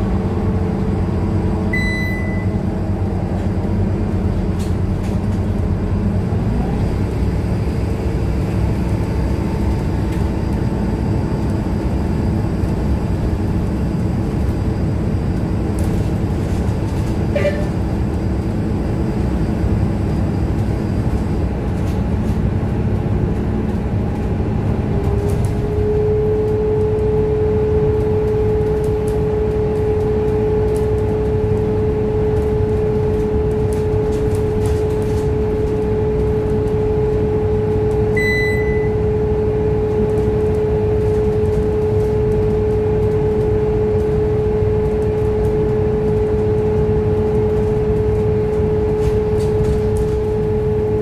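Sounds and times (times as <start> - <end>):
bus engine and road drone: 0.0 - 51.0.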